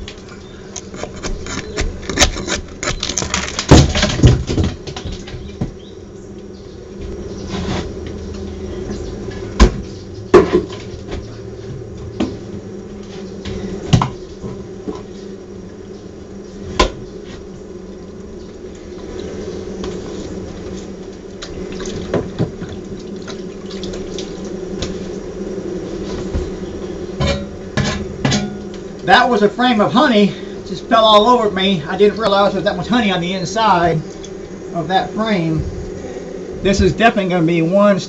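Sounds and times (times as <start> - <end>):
bee colony buzzing: 0.0 - 38.0.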